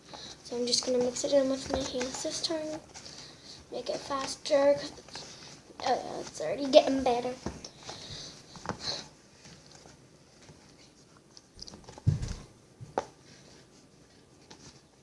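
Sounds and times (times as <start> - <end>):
hands kneading sticky dough: 0.0 - 15.0.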